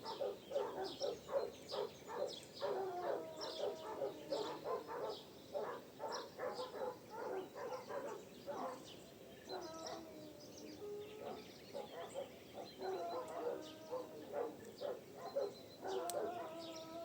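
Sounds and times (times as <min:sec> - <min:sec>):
low repeated bird calls: 0:00.0 - 0:17.0.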